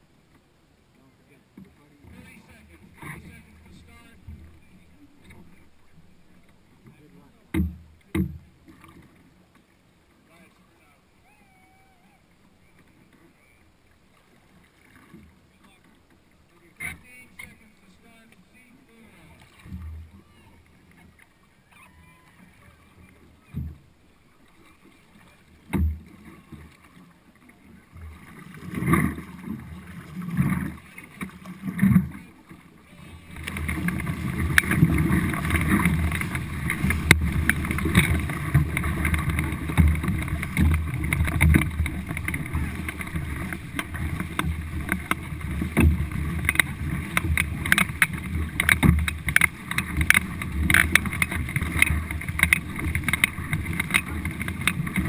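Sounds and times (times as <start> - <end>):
paddles splashing water: 0.0 - 55.0
water rushing past hull: 0.0 - 55.0.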